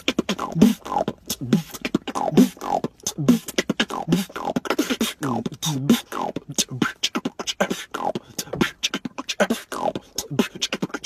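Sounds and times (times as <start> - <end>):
person beatboxing: 0.0 - 11.0.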